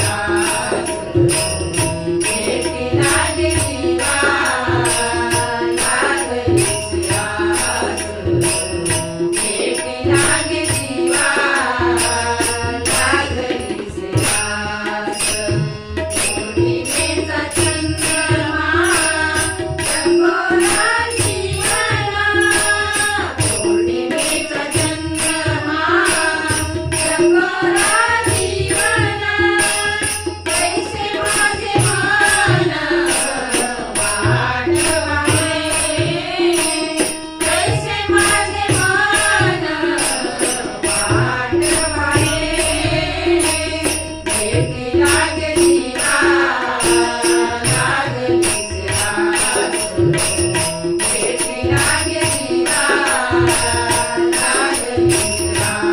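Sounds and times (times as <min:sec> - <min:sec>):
hand cymbals clashing: 0:00.0 - 0:55.9
harmonium: 0:00.0 - 0:55.9
tabla: 0:00.0 - 0:55.9
women singing devotional song: 0:00.0 - 0:55.9.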